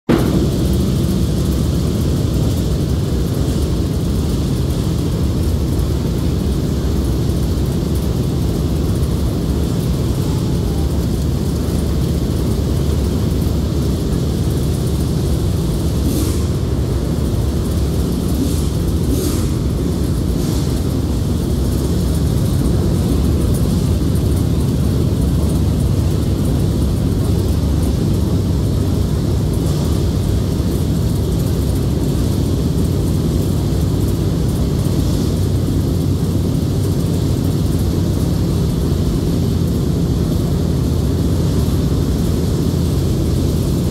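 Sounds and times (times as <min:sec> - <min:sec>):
race car engine idling: 0:00.0 - 0:43.9.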